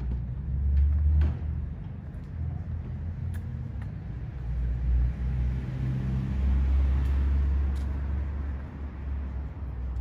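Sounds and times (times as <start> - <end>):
vehicle engine rumble passing: 0.0 - 10.0.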